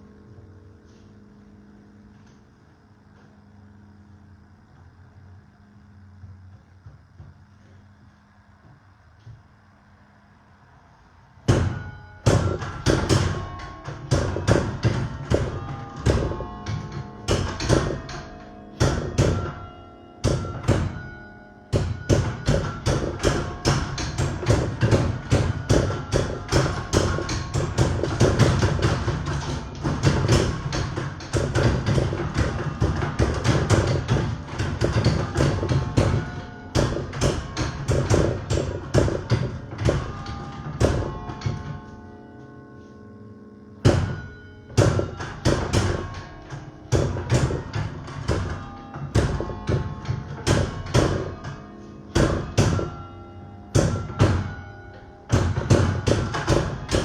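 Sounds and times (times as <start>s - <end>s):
church bells playing a carol: 10.8s - 57.0s.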